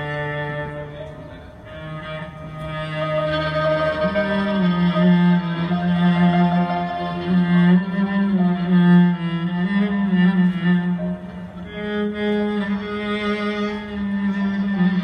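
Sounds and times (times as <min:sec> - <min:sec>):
bowed cello low notes: 0:00.0 - 0:15.0
string ensemble with violins: 0:00.0 - 0:15.0.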